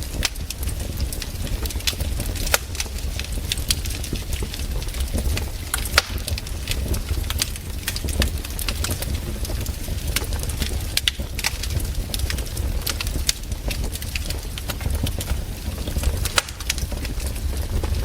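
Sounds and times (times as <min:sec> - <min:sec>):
campfire crackling and popping: 0:00.0 - 0:18.0
low rumble of fire: 0:00.0 - 0:18.0.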